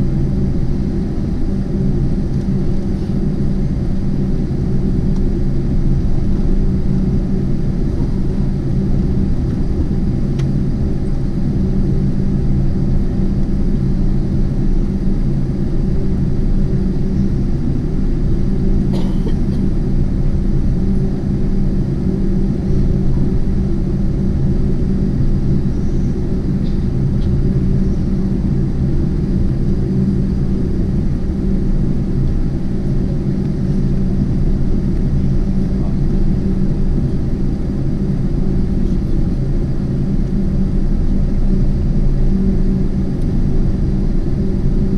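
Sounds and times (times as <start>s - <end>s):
aircraft cabin rumble: 0.0s - 44.9s
steady hum tones: 0.0s - 44.9s.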